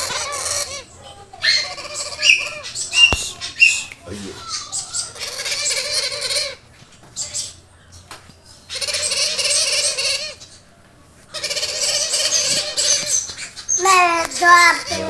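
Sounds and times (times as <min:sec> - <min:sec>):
parrot chicks begging calls: 0:00.0 - 0:15.0.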